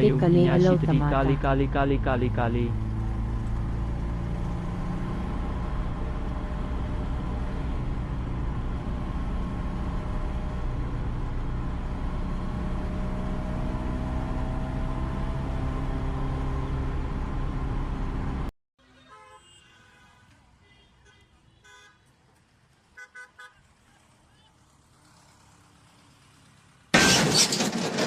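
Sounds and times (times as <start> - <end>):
road rumble: 0.0 - 18.5, 20.2 - 28.0.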